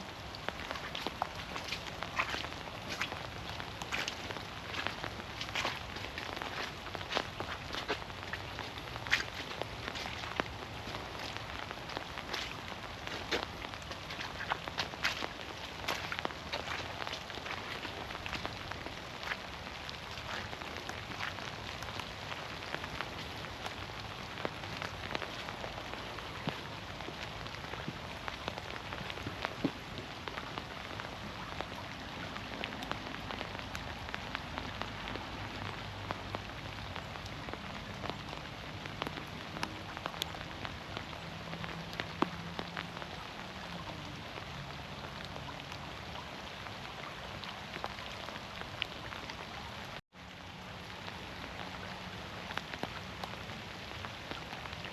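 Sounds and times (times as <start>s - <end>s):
rain falling through trees: 0.0s - 54.9s
raindrops pattering: 0.0s - 54.9s.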